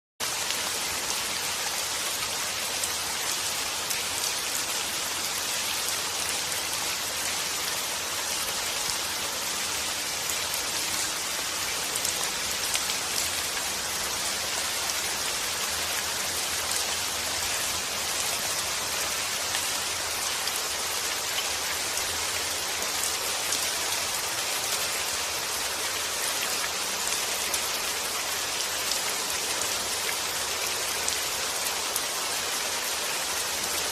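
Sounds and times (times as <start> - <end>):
steady rain pattering: 0.2 - 33.9.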